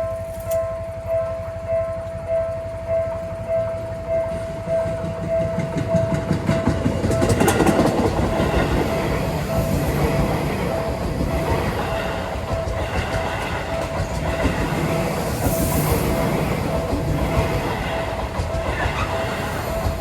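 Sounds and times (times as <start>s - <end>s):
railroad crossing bell ringing: 0.0s - 20.0s
train rumble and wheel clatter: 0.0s - 20.0s.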